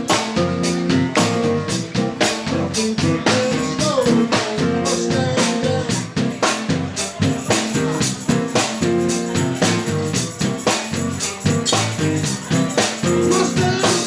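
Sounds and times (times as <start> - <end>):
drum kit beat: 0.0 - 14.0
live rock band playing: 0.0 - 14.0.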